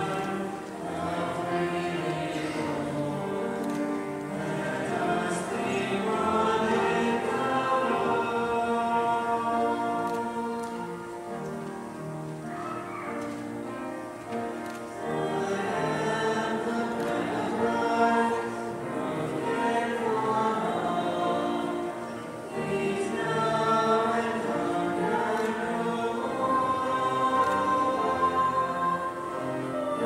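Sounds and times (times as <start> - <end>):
choir singing a hymn: 0.0 - 30.0.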